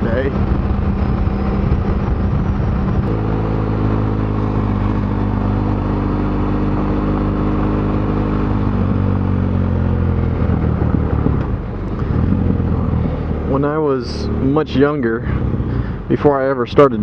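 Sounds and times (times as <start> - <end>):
wind noise: 0.0 - 13.7
motorcycle engine running: 0.0 - 17.0.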